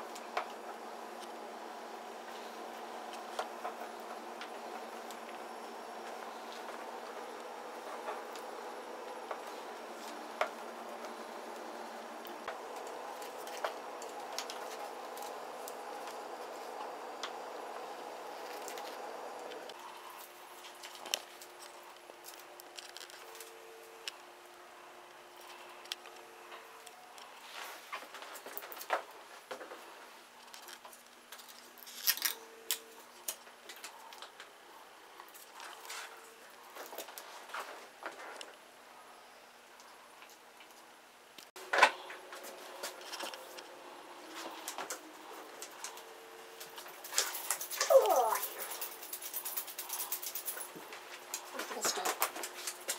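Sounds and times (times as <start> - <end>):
faint hum: 0.0 - 52.9.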